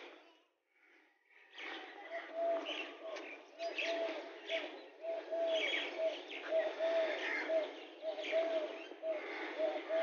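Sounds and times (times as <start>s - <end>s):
birds chirping high: 0.0s - 10.0s.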